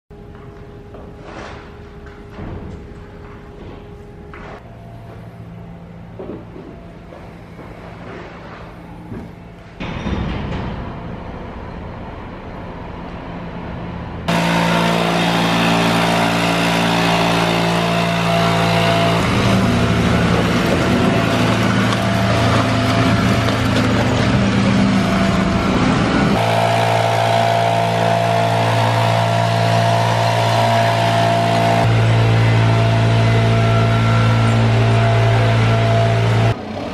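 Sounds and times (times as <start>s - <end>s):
street sweeper machine drone: 0.2s - 10.3s, 11.0s - 36.9s.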